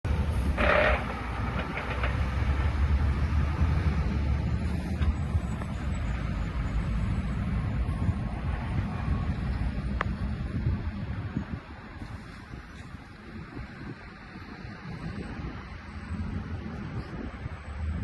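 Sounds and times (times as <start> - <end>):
diesel engine rumbling: 0.0 - 18.0.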